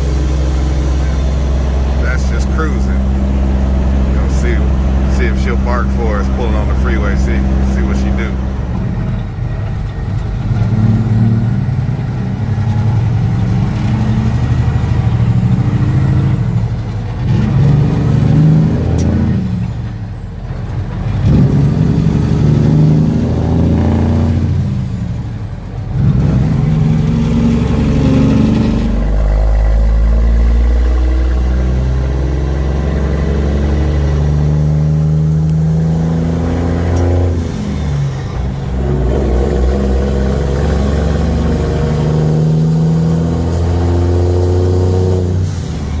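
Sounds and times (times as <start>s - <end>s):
diesel truck engine shifting gears: 0.0s - 46.0s.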